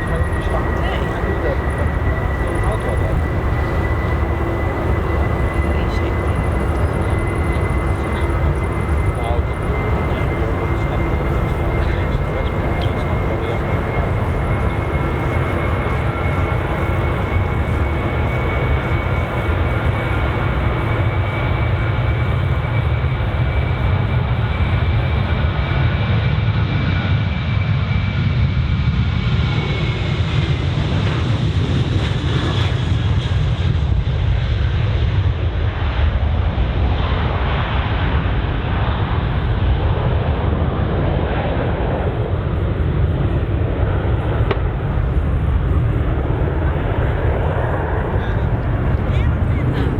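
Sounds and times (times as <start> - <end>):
jet engines rumbling with fan whine: 0.0 - 49.9.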